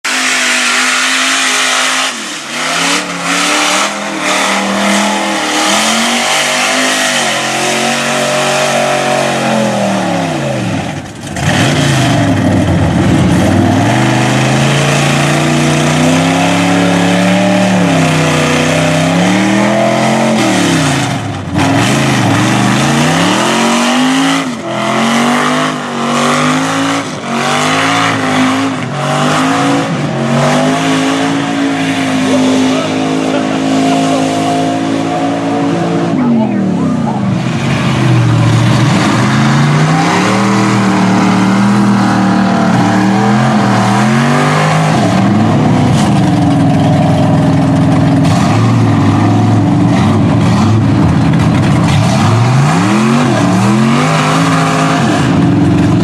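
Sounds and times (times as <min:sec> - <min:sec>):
truck engine revving hard: 0:00.0 - 0:56.0.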